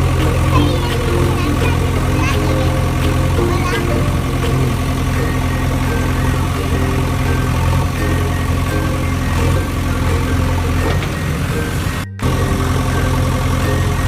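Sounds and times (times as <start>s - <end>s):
heavy vehicle engine droning: 0.0s - 14.0s.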